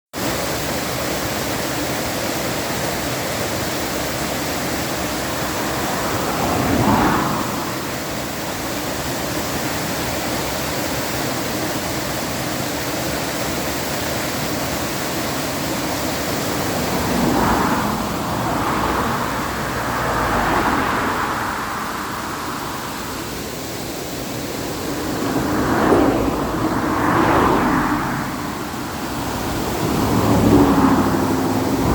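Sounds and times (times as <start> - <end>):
waterfall rushing: 0.2 - 31.9.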